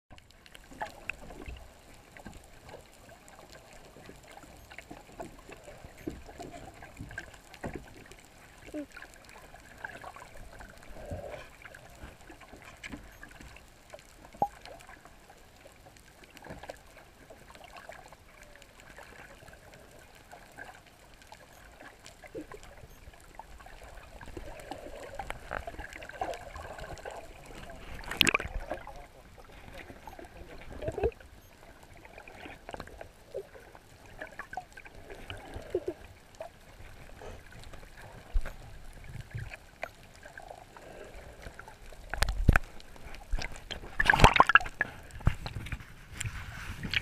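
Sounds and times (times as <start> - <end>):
underwater sloshing and gurgling: 0.1 - 47.0.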